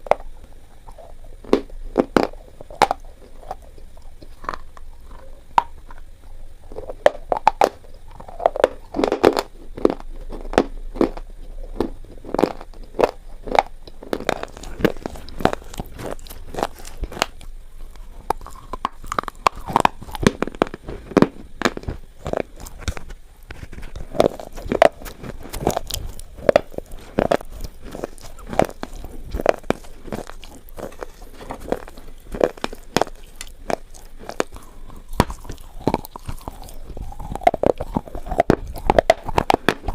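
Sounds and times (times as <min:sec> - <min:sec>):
person chewing crunchy pencils: 0:00.0 - 0:39.9.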